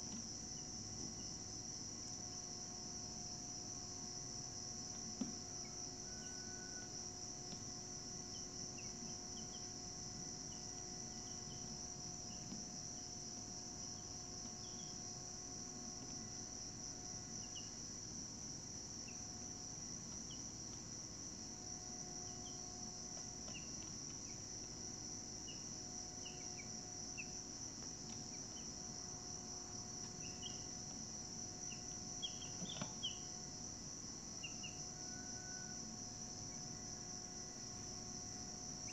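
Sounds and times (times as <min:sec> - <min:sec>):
high-pitched insect chorus: 0:00.4 - 0:38.9.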